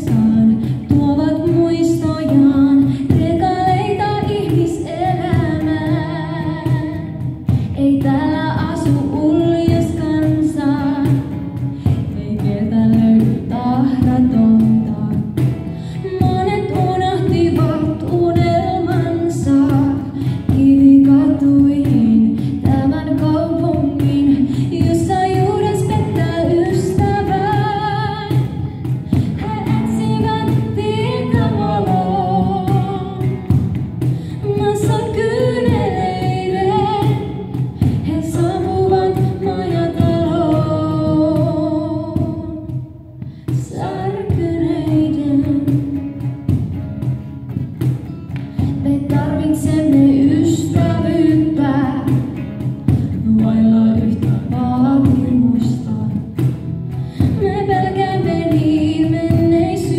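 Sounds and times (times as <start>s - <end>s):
woman singing gospel song: 0.0s - 42.8s, 43.5s - 46.1s, 48.8s - 56.4s, 57.1s - 59.9s
cajon: 0.0s - 59.9s
strummed acoustic guitar: 0.0s - 59.9s.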